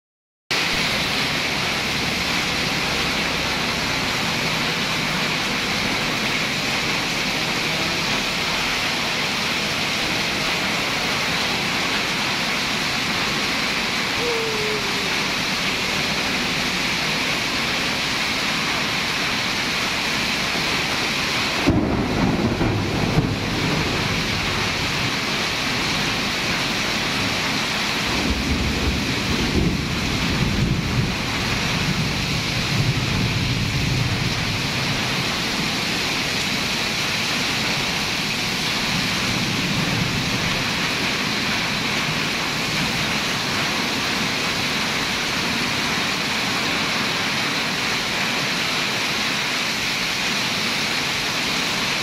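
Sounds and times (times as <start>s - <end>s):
heavy rain on a street: 0.5s - 52.0s.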